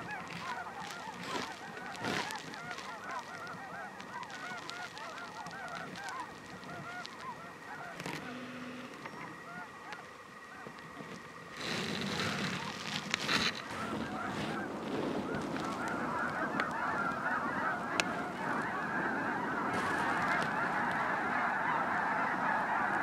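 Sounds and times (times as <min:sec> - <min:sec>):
flock of geese honking: 0:00.0 - 0:23.0.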